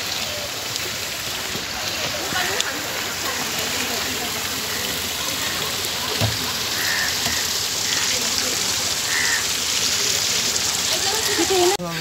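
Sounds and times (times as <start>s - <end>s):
water pouring from spout onto stones: 0.0s - 11.8s
stream rushing over rocks: 0.0s - 12.0s.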